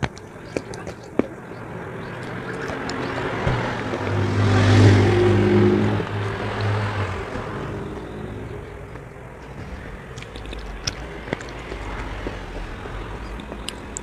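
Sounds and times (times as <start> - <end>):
vehicle passing by: 1.4 - 14.0.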